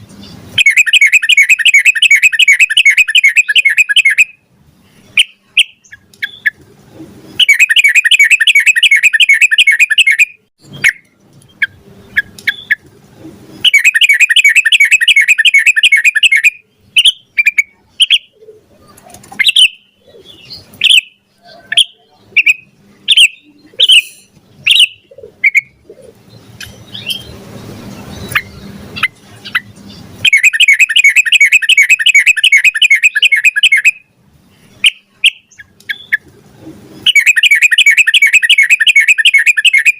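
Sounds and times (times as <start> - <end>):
bird chirps: 0.1 - 6.6, 7.2 - 12.9, 13.5 - 36.3, 36.9 - 39.9
bird rolling song: 5.0 - 34.0, 34.6 - 39.9.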